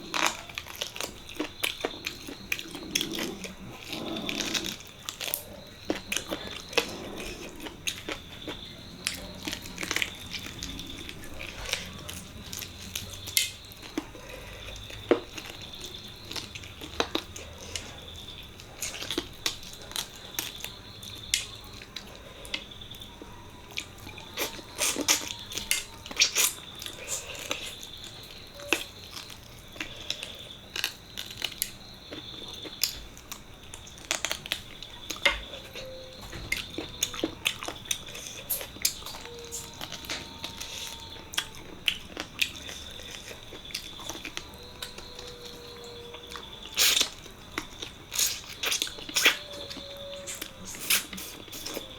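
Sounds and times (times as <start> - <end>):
chewing and mouth clicks: 0.0 - 51.9.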